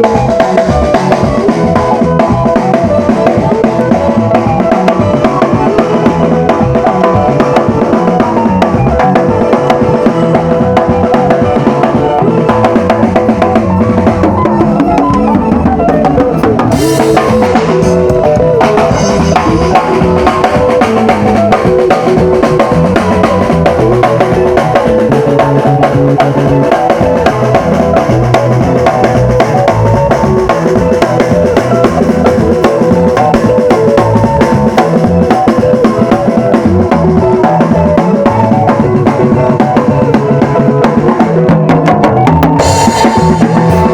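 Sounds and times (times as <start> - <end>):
sustained pitched instruments: 0.0 - 33.9, 42.1 - 43.9
drum kit steady beat: 0.0 - 43.9.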